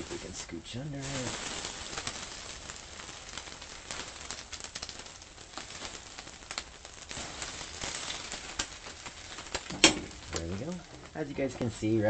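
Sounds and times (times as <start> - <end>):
eggs and meat sizzling on griddle: 0.0 - 12.0.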